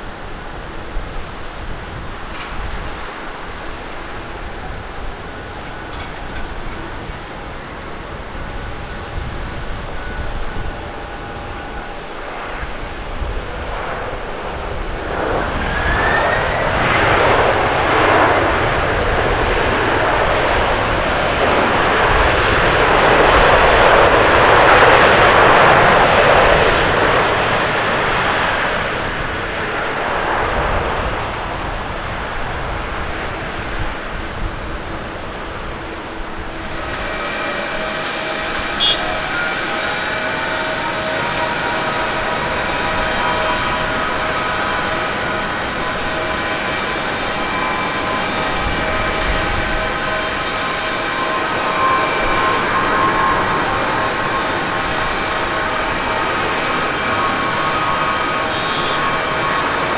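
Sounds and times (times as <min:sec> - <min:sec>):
jet engines roaring: 0:00.0 - 0:59.9
rising engine whine: 0:00.0 - 0:59.9.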